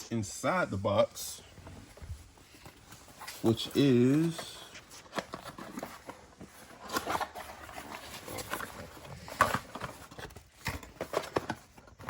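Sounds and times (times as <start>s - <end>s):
packaging rustling: 1.5s - 12.0s.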